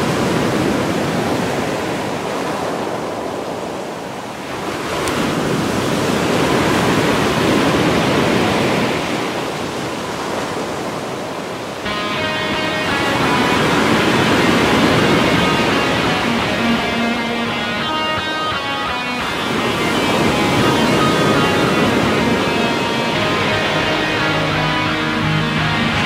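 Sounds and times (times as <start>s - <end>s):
surf washing over stony shore: 0.0s - 24.2s.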